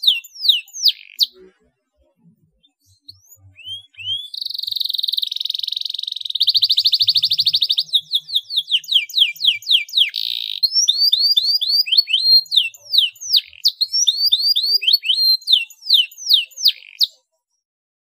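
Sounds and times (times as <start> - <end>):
canary singing: 0.0 - 17.4.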